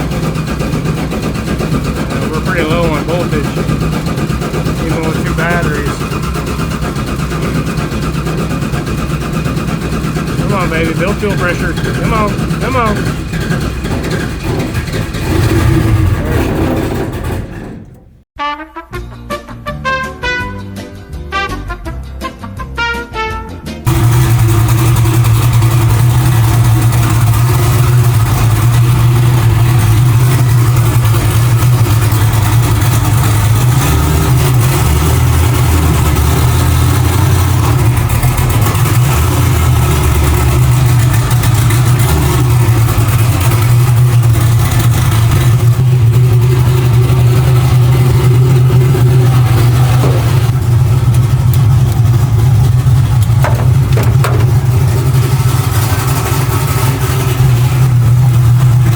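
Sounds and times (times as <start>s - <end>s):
car engine running loudly: 0.0s - 18.2s, 23.8s - 58.9s.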